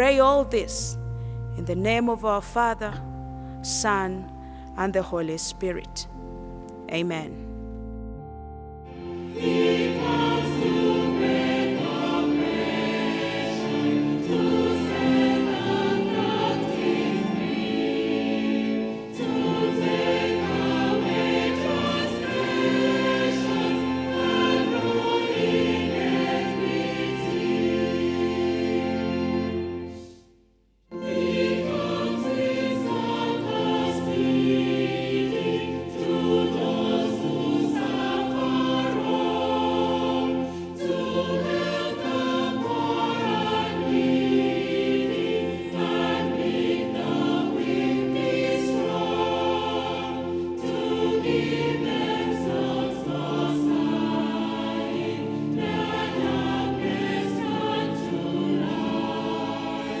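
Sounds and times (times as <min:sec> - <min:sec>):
choir singing a hymn: 0:00.0 - 0:07.7, 0:08.3 - 0:30.2, 0:30.9 - 1:00.0.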